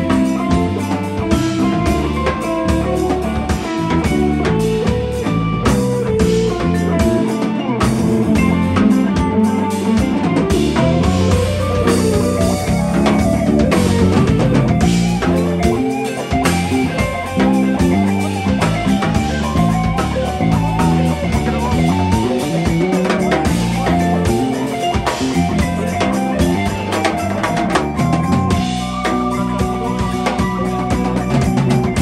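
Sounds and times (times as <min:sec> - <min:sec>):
drum kit: 0:00.0 - 0:32.0
electric bass guitar: 0:00.0 - 0:32.0
electric guitar: 0:00.0 - 0:32.0
keyboard: 0:00.0 - 0:32.0.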